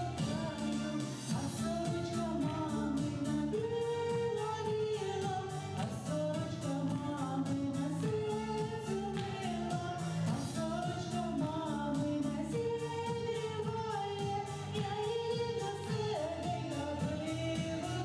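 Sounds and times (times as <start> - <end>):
instrumental backing with beat: 0.0 - 18.0
person singing: 0.0 - 18.0.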